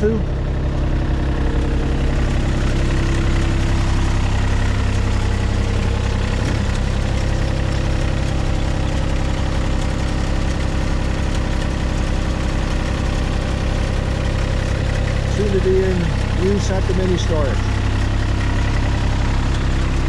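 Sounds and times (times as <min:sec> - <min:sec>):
excavator diesel engine idling: 0:00.0 - 0:20.0.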